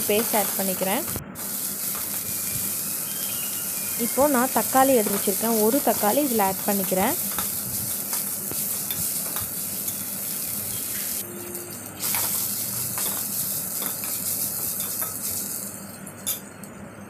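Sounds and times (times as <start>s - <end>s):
onion and tomato sizzling in oil: 0.0s - 16.4s
steel spoon scraping a pan: 1.4s - 15.6s.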